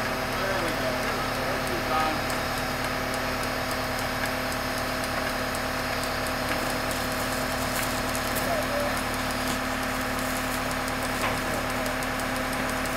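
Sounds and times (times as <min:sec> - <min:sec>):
diesel engine humming: 0:00.0 - 0:12.9.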